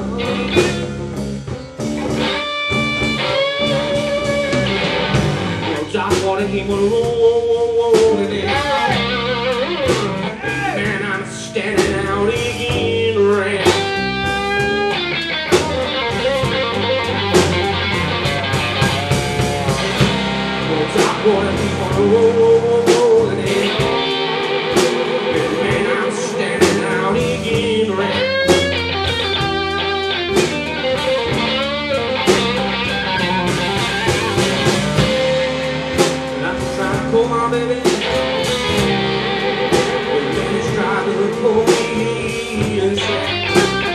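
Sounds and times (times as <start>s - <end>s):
two guitars playing slow blues: 0.0s - 43.9s.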